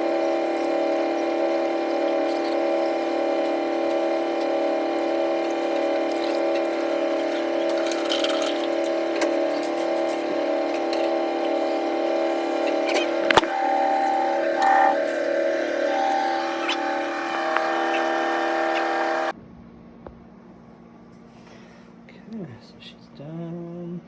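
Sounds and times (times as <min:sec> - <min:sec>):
washing machine humming: 0:00.0 - 0:19.4.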